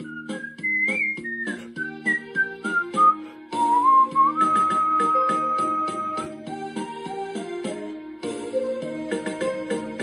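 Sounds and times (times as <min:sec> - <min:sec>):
instrumental backing music: 0:00.0 - 0:10.0.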